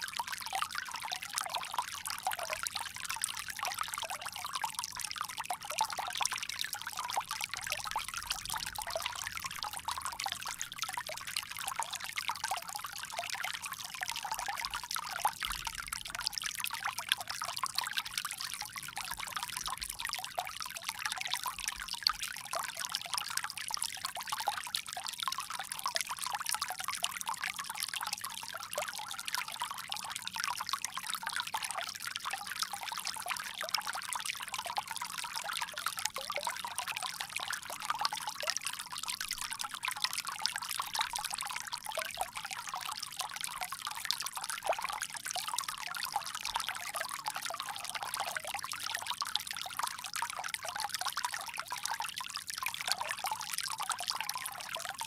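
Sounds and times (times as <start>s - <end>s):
water pouring from a spout: 0.0s - 55.0s.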